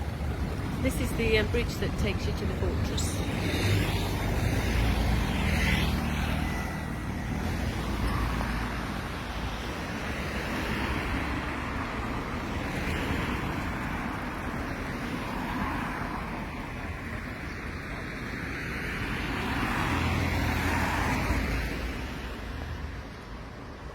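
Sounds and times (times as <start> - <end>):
passing traffic: 0.0 - 23.9
tyres rumbling on road: 0.0 - 23.9.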